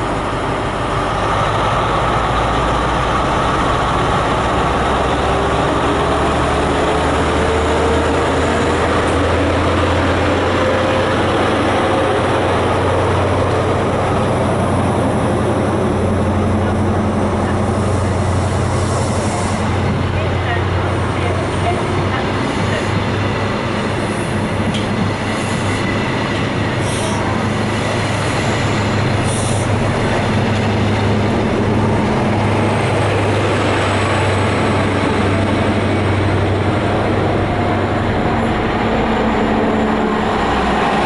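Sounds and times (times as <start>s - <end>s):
diesel train engine running: 0.0s - 41.0s.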